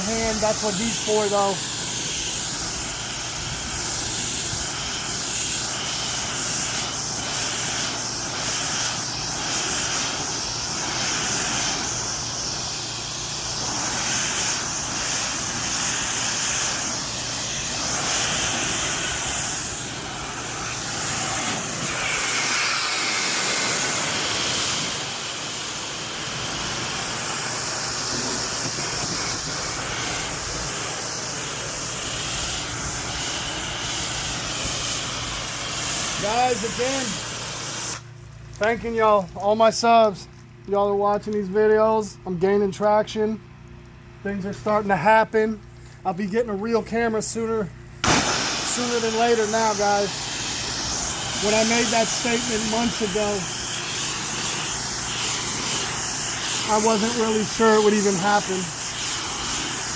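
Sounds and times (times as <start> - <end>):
pressure washer spraying concrete: 0.0 - 59.9.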